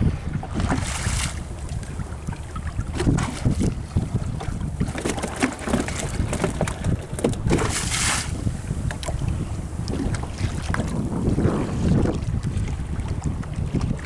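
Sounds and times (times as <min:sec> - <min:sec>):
rush of water: 0:00.0 - 0:14.0
water sloshing against boat hull: 0:00.0 - 0:14.0
wind buffeting microphone: 0:00.0 - 0:14.0.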